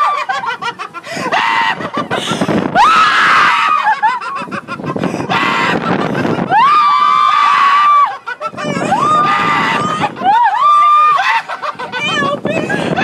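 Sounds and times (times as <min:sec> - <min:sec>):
people screaming in fright: 0:00.0 - 0:04.5, 0:05.2 - 0:13.0.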